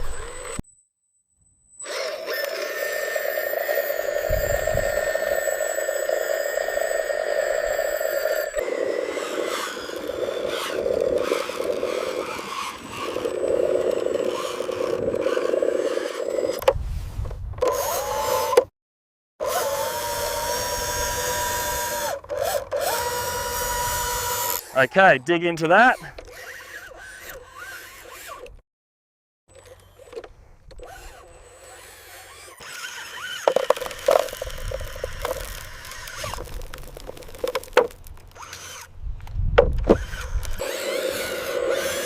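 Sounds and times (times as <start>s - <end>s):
small electric motors whining: 0.0s - 0.6s, 1.6s - 16.7s, 17.6s - 18.7s, 19.4s - 28.6s, 29.5s - 42.0s.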